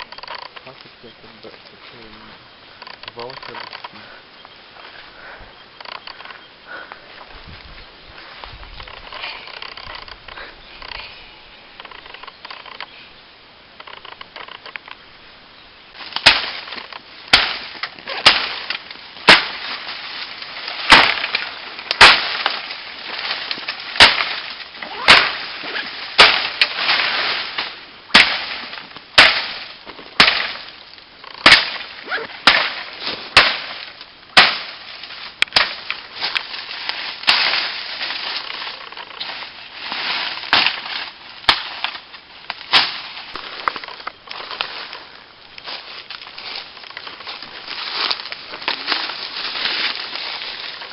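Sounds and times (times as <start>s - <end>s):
crackling and rustling: 0.0s - 13.0s, 13.7s - 15.1s, 15.9s - 50.9s.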